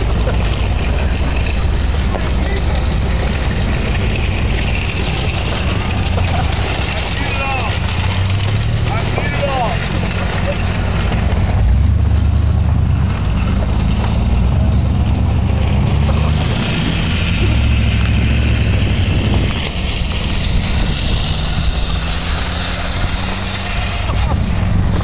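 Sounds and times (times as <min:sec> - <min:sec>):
road and wind noise: 0:00.0 - 0:25.0
truck engine droning: 0:00.0 - 0:25.0.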